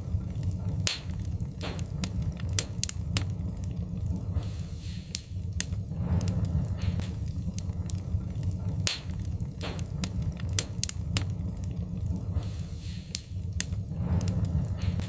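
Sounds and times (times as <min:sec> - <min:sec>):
low rumble of flames: 0:00.0 - 0:15.0
sharp pops from burning logs: 0:00.0 - 0:15.0
wood fire crackling: 0:00.0 - 0:15.0.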